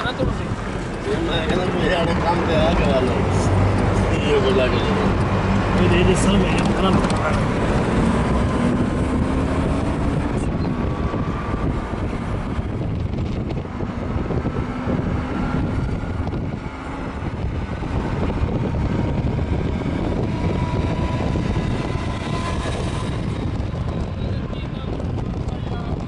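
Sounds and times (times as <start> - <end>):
car road noise at speed: 0.0 - 26.0.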